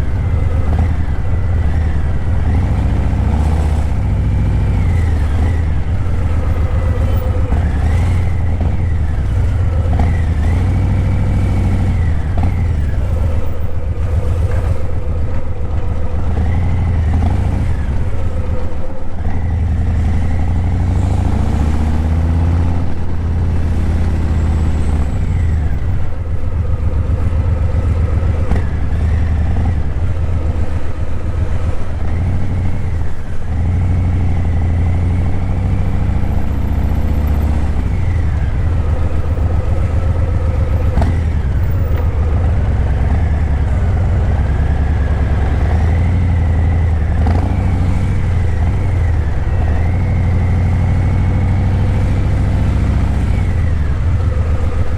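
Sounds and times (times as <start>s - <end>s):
motorcycle engine rumbling: 0.0s - 54.9s.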